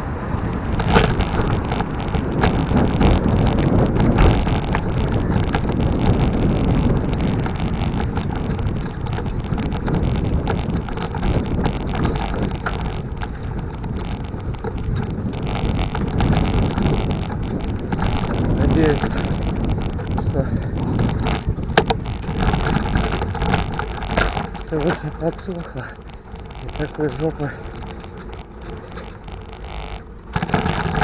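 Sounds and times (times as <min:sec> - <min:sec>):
bicycle tyre noise: 0:00.0 - 0:31.0
wind on microphone: 0:00.0 - 0:31.0
small clicks and rattles: 0:00.6 - 0:31.0.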